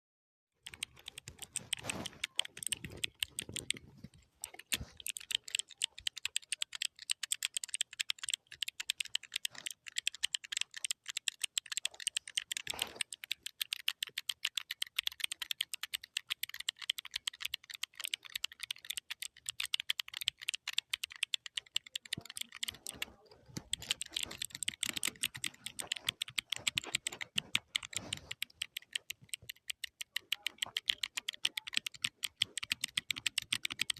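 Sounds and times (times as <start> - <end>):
fast keyboard typing: 0.6 - 33.9.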